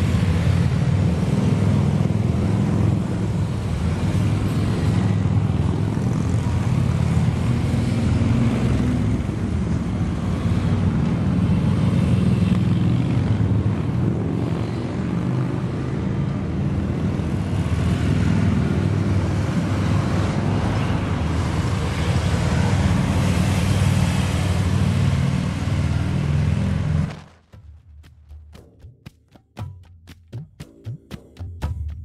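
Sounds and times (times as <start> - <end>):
motorcycles and traffic passing: 0.0 - 27.6.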